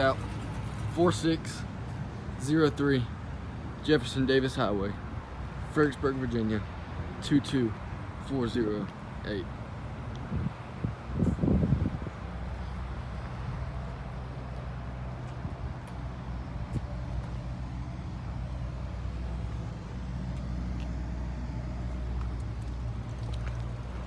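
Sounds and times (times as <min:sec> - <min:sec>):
diesel engine idling: 0:00.0 - 0:06.9, 0:07.8 - 0:24.0.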